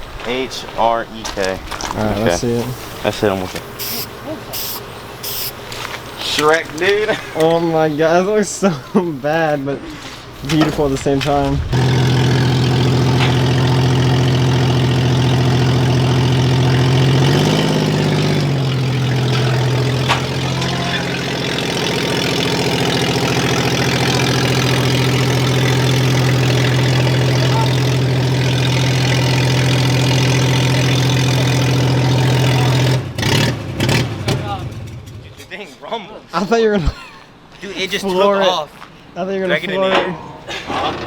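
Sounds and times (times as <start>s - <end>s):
vehicle engine idling: 1.5s - 35.5s.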